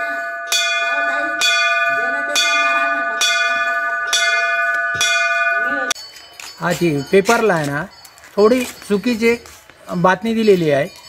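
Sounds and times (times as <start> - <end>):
temple bell ringing: 0.0 - 11.0.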